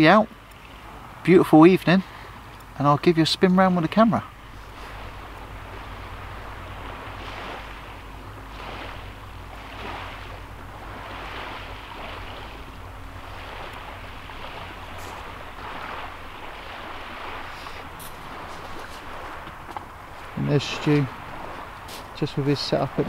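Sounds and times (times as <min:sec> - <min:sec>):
small waves washing on beach: 0:00.0 - 0:23.0.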